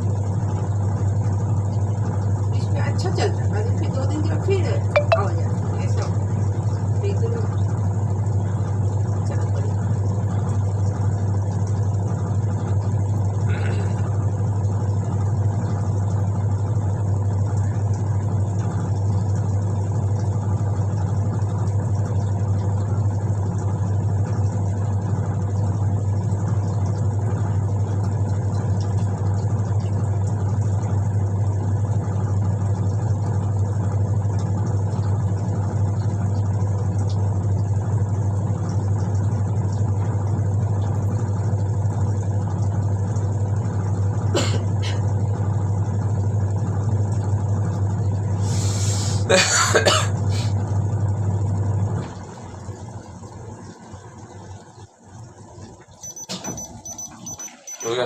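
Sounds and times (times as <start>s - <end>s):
washing machine motor hum: 0.0s - 58.0s.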